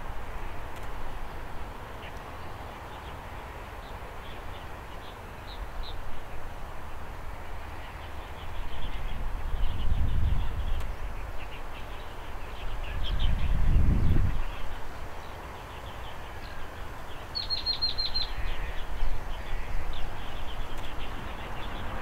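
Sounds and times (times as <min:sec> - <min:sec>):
small birds chirping: 0:00.4 - 0:22.0.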